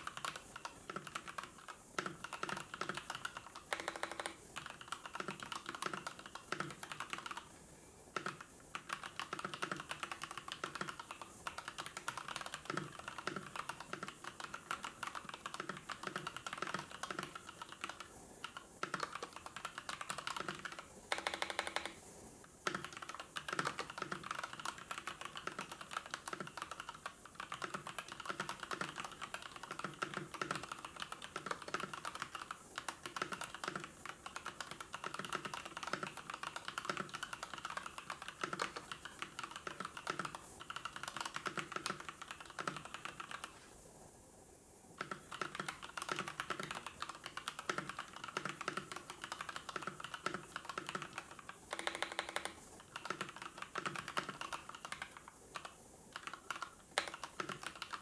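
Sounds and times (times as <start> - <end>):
rapid typing on keyboard: 0.0 - 7.5, 8.1 - 43.7, 45.0 - 58.0.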